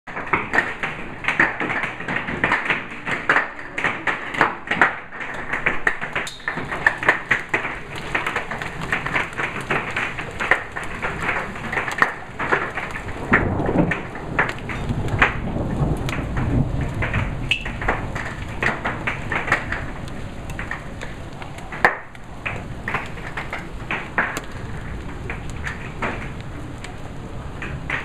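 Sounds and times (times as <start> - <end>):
hail clattering on wooden deck: 0.1 - 28.0
rain falling: 0.1 - 28.0.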